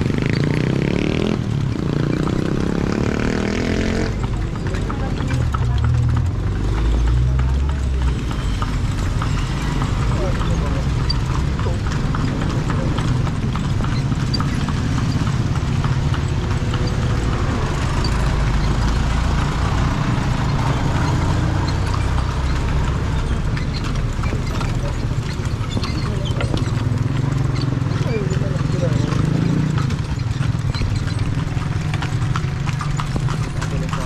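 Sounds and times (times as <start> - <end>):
carriage rolling: 0.0 - 34.0
horse hooves clip-clopping on street: 0.0 - 34.0.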